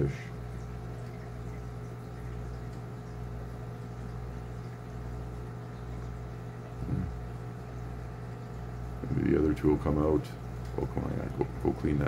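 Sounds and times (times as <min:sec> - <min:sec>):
aquarium equipment humming: 0:00.0 - 0:12.0.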